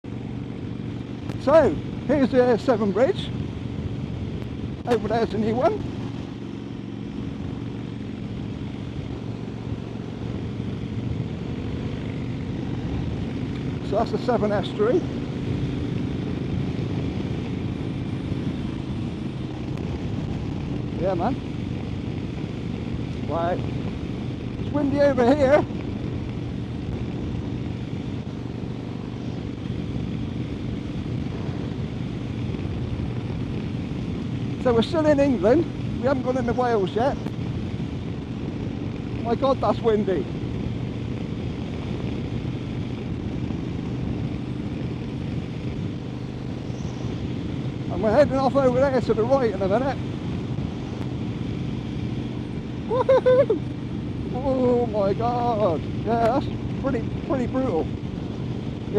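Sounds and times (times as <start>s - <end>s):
motorcycle engine running steadily: 0.0s - 58.9s
wind and road noise: 0.0s - 58.9s.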